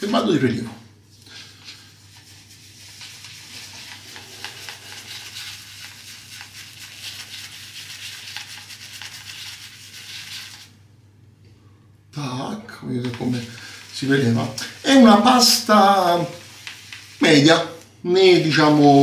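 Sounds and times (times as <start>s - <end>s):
shaving brush scrubbing soap: 1.4s - 10.7s, 13.0s - 19.0s.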